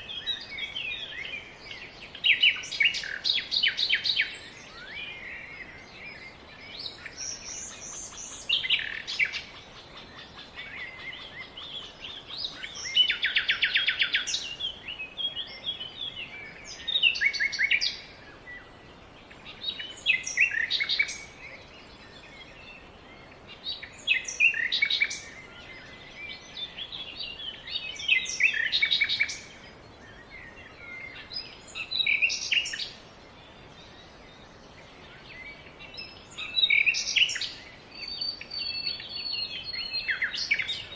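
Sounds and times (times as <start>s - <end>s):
faint outdoor hiss: 0.0s - 40.9s
songbirds singing: 0.0s - 40.9s.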